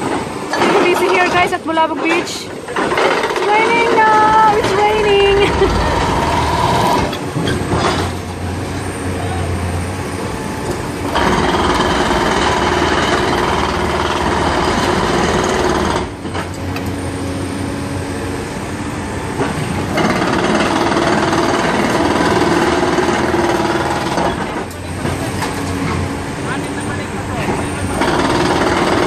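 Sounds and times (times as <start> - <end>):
hydraulic breaker hammering concrete: 0.0 - 8.4, 11.0 - 16.6, 19.4 - 29.0
excavator engine running: 0.0 - 29.0.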